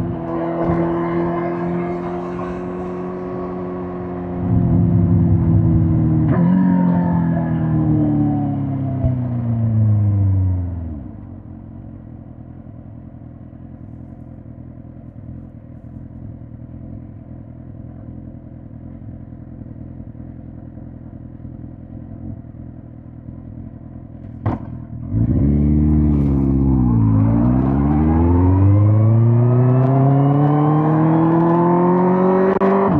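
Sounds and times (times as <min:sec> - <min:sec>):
motorcycle engine: 0:00.0 - 0:32.9.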